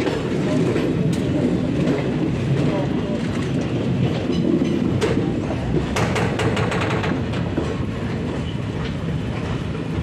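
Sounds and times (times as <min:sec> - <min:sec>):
train wheel rumble on rails: 0:00.0 - 0:10.0
wheels clacking over rail joints: 0:00.0 - 0:10.0.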